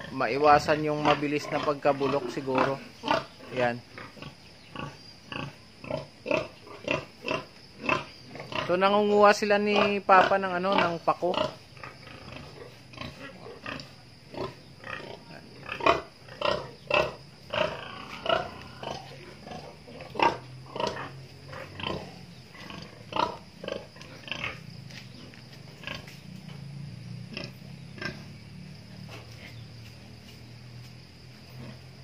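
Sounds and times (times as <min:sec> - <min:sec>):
pigs grunting: 0:00.0 - 0:26.6, 0:27.2 - 0:30.2, 0:31.4 - 0:32.0.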